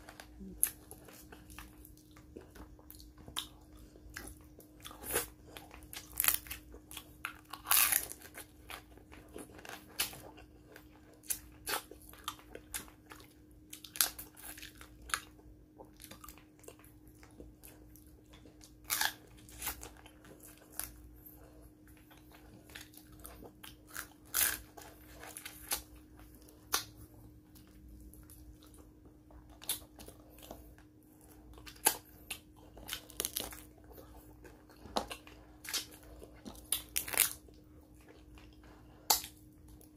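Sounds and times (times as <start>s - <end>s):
chewing: 0.0s - 39.9s
faint steady hum: 0.0s - 39.9s.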